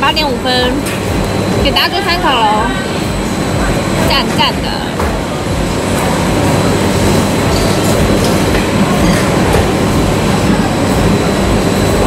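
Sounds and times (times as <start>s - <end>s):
loud steady rumbling: 0.0s - 12.0s.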